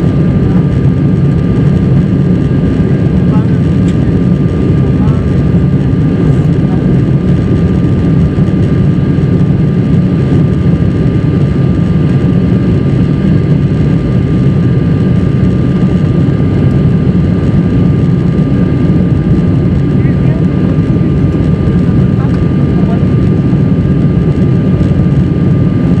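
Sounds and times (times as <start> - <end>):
airplane cabin engine rumble: 0.0 - 26.0
faint steady whine: 0.0 - 26.0.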